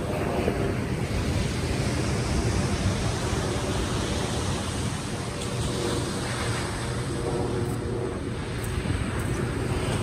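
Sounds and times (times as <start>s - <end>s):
heavy low rumble: 0.0s - 10.0s
surf rushing on beach: 0.0s - 10.0s.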